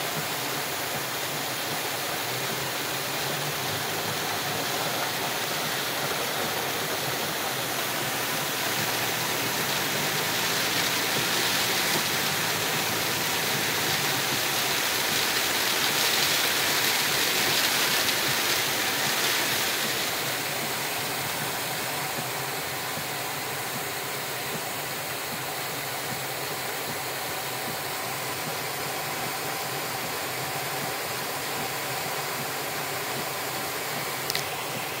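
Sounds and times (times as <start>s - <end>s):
heavy rain on car roof: 0.0s - 35.0s
tyre spray on flooded road: 0.0s - 35.0s.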